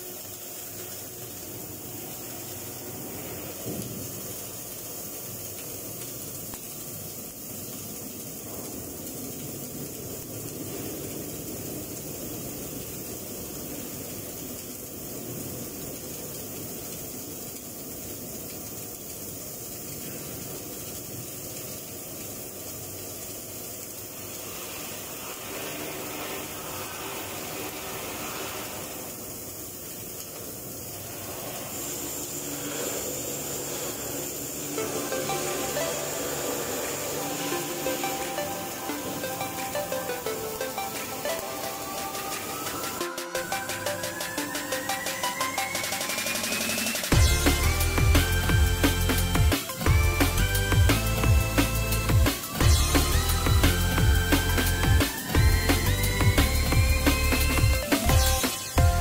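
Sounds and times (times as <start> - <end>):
arc welding hiss: 0.0 - 59.0.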